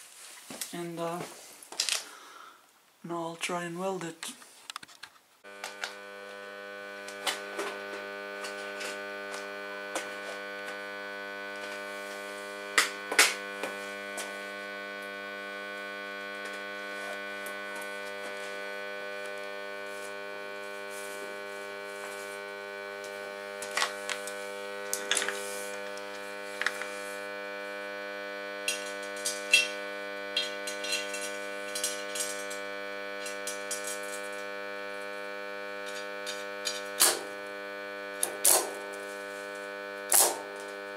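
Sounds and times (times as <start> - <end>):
welder humming: 5.4 - 40.9.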